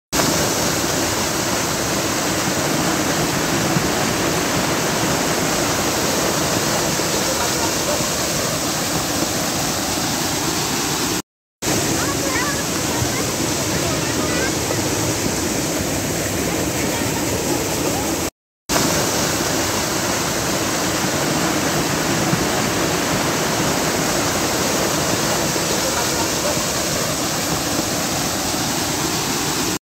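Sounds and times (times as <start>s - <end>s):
floodwater rushing down gully: 0.1s - 29.8s.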